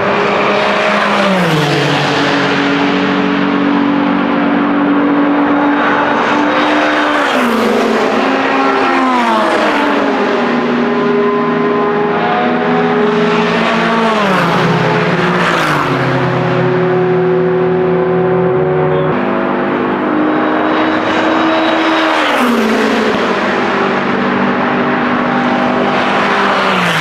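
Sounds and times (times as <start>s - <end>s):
race cars passing at speed: 0.0s - 27.0s.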